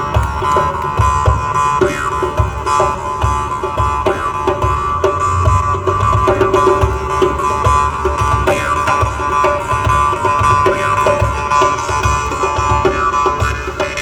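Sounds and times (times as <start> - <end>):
steady regular beat: 0.0 - 14.0.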